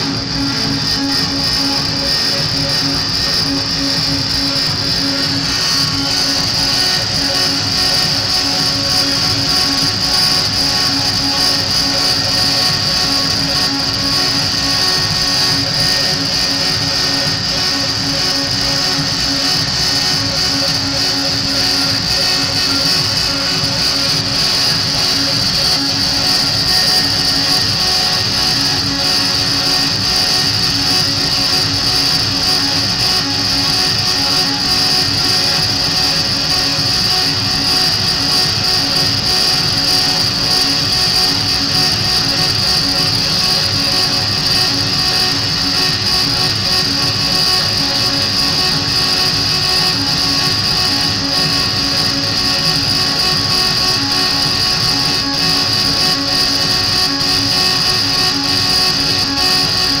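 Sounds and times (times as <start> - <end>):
electronic noise music: 0.0 - 60.0
low pulsing tone: 0.0 - 60.0.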